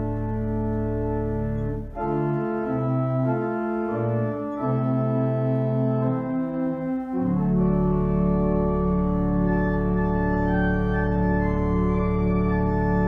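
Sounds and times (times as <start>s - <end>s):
deep bass organ note: 0.0s - 13.0s
organ playing sustained chords: 0.0s - 13.0s.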